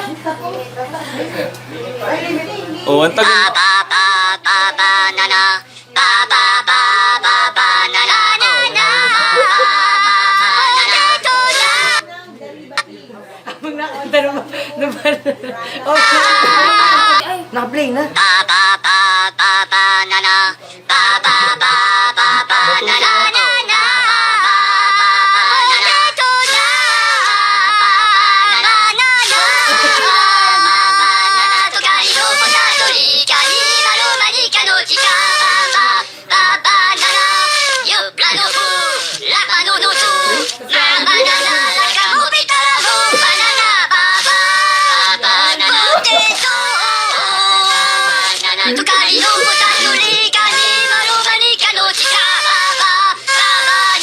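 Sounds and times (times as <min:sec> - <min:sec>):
high-pitched singing voice: 0:03.2 - 0:12.0, 0:15.9 - 0:17.5, 0:18.1 - 0:54.0.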